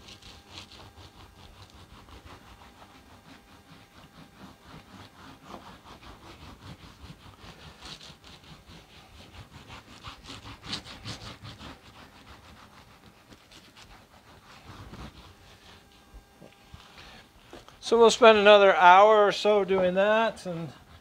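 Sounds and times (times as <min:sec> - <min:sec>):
sander scrubbing wet wool: 0:00.0 - 0:21.0.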